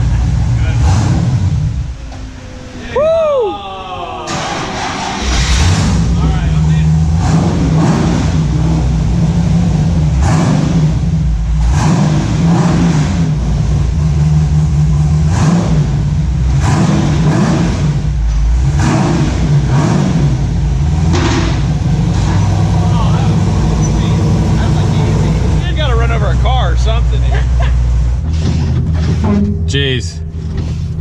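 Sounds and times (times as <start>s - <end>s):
engine revving: 0.0s - 2.5s, 4.3s - 29.3s
steady low hum: 0.0s - 31.0s.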